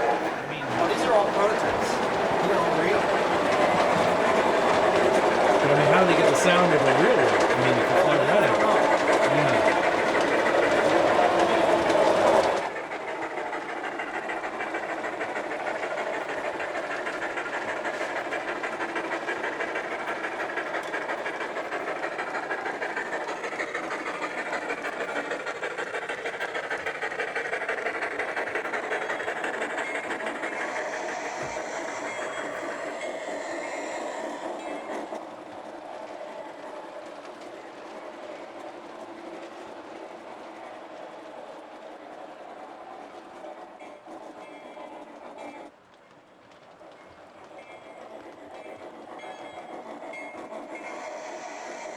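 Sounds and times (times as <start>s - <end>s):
model train wheels clattering: 0.0s - 51.9s.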